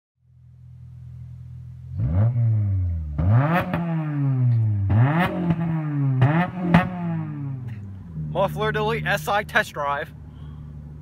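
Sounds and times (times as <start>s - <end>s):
car engine idling and revving: 0.2s - 11.0s.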